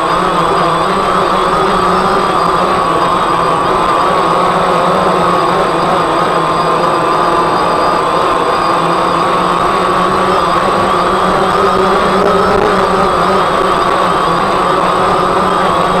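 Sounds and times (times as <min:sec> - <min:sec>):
drone motors buzzing whine: 0:00.0 - 0:16.0.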